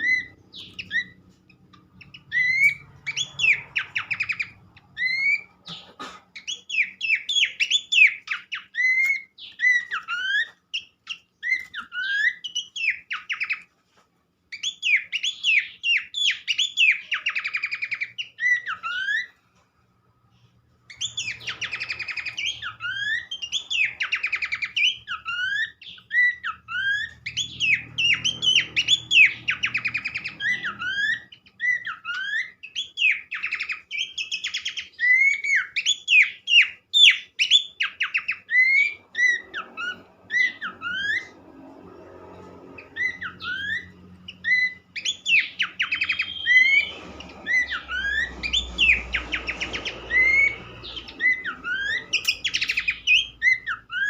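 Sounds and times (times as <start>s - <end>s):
bird whistling song with trills: 0.0s - 13.7s, 14.5s - 19.4s, 20.9s - 54.0s.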